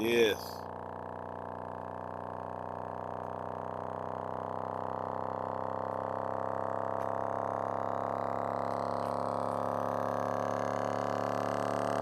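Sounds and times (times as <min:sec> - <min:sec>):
subwoofer low tone sweep: 0:00.0 - 0:12.0.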